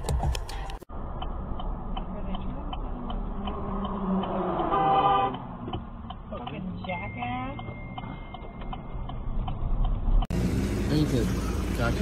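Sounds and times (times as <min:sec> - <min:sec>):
road rumble inside car: 0:00.0 - 0:12.0
turn signal ticking: 0:00.2 - 0:10.4.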